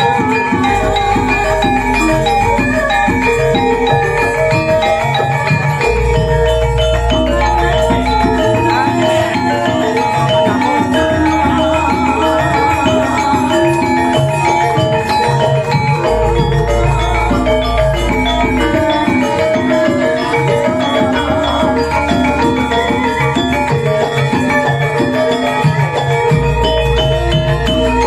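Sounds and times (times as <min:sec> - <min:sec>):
metallophones playing: 0:00.0 - 0:28.0.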